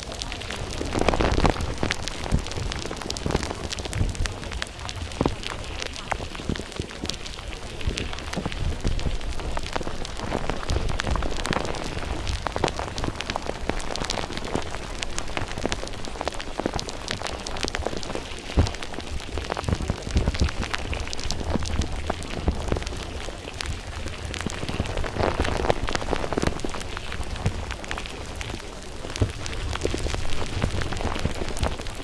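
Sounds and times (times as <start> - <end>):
water pattering and splashing: 0.0 - 32.0.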